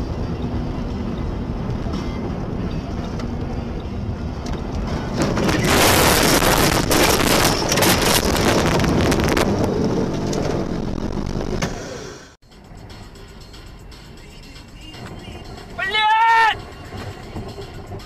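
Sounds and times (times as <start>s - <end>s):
car driving on snowy road: 0.0s - 18.0s.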